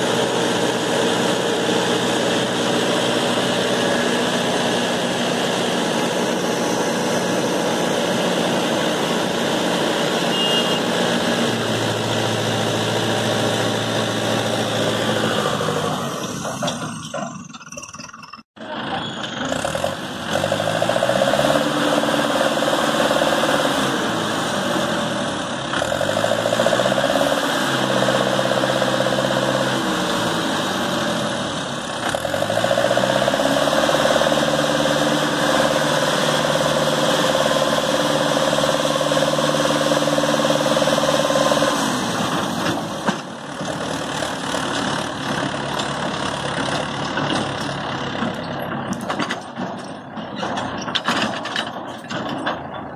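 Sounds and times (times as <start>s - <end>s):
tractor diesel engine revving: 0.0s - 52.9s.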